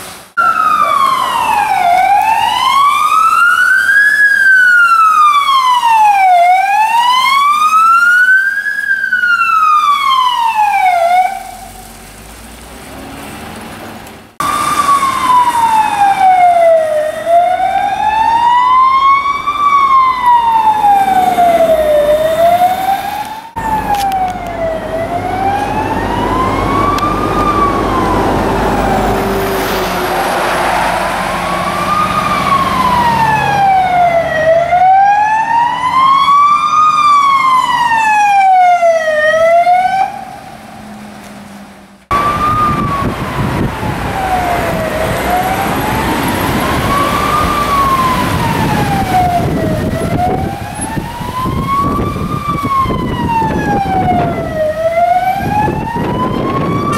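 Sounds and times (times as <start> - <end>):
fire engine siren wailing: 0.3 - 12.1, 14.4 - 56.9.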